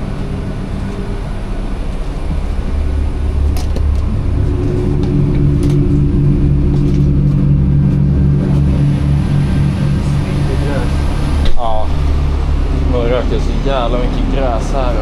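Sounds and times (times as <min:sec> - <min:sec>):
diesel train engine humming: 0:00.0 - 0:15.0.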